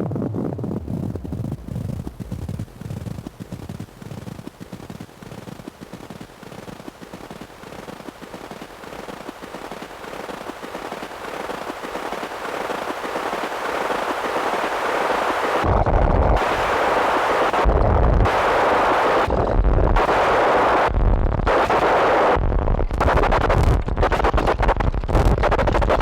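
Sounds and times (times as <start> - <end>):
distorted electronic crackling noise: 0.0 - 26.0.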